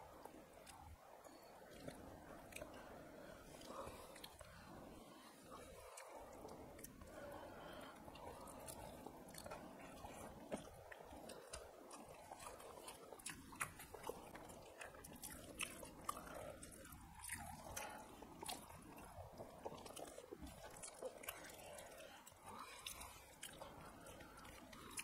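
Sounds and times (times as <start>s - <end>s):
close chewing and eating: 0.0s - 25.0s.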